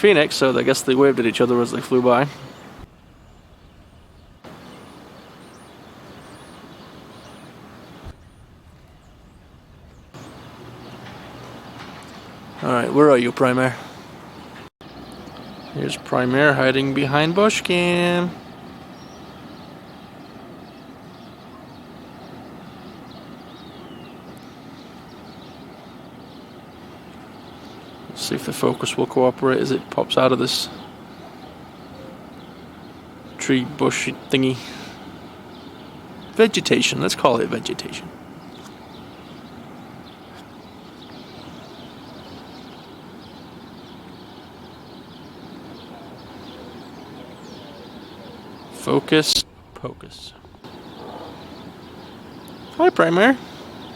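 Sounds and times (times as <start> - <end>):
distant jet engines rumbling: 0.0 - 53.9
small birds chirping: 0.0 - 53.9.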